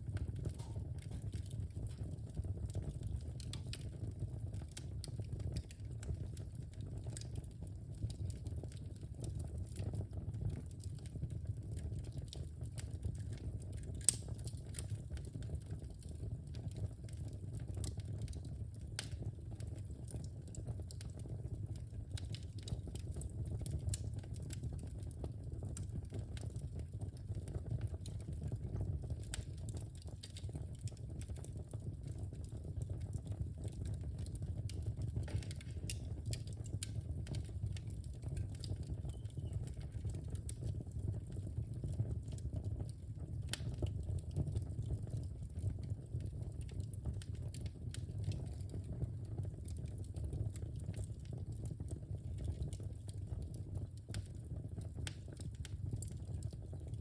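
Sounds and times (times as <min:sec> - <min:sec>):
fire rumbling: 0:00.0 - 0:57.0
wood fire crackling and popping: 0:00.0 - 0:57.0.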